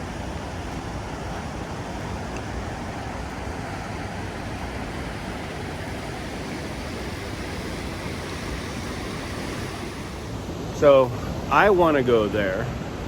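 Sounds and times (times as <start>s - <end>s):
mountain creek rushing: 0.0s - 13.0s.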